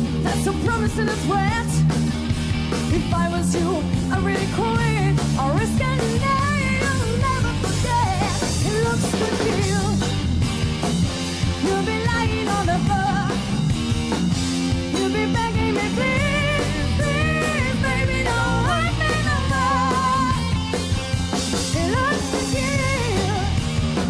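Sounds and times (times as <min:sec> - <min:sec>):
rock music: 0:00.0 - 0:24.0
steady drum beat: 0:00.0 - 0:24.0.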